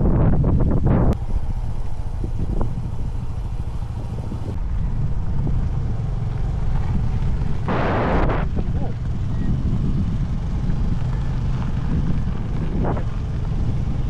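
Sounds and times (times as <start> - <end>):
motorbike engine and road rumble: 0.0 - 14.0
wind buffeting microphone: 0.0 - 14.0.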